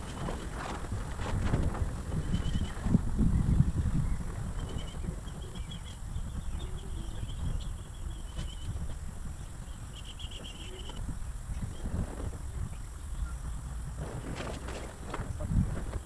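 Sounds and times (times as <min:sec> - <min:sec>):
constant low rumble: 0:00.0 - 0:16.0.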